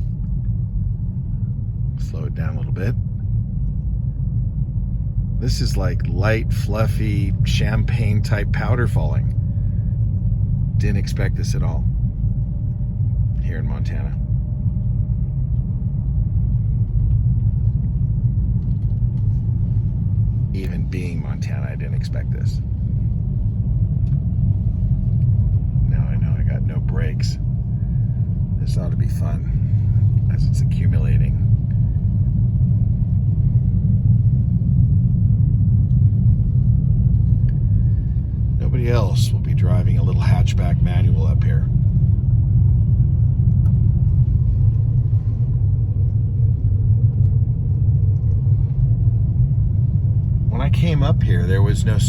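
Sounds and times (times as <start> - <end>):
car engine low rumble: 0.0 - 52.0.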